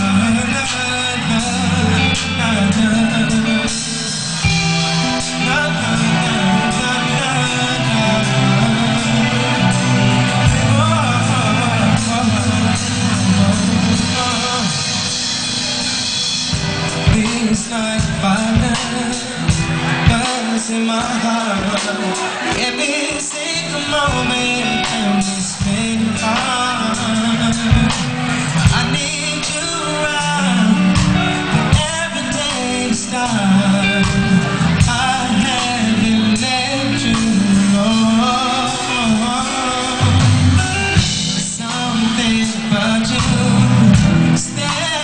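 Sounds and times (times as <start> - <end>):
band playing bass and chords: 0.0 - 45.0
man singing: 0.0 - 45.0.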